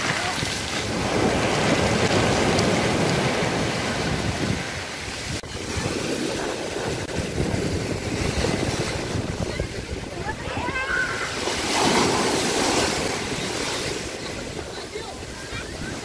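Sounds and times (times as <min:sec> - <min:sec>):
sea waves breaking on shore: 0:00.0 - 0:16.0
wind buffeting microphone: 0:00.0 - 0:16.0.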